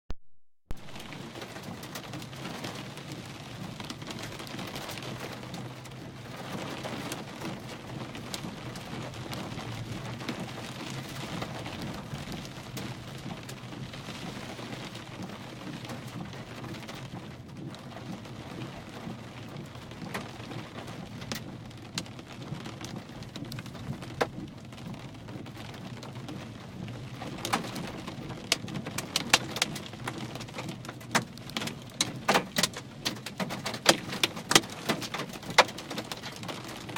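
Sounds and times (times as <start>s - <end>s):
hail and rain pelting: 0.8s - 36.9s.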